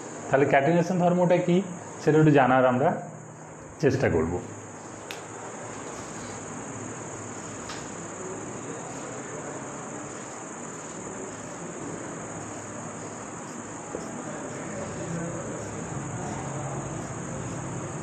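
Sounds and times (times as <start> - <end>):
crickets trilling: 0.0 - 18.0
steady background hiss: 0.0 - 18.0.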